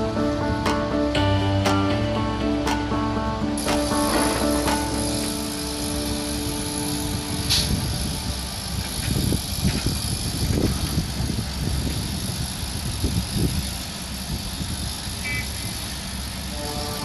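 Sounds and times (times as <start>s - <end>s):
diesel engines rumbling: 0.0s - 17.0s.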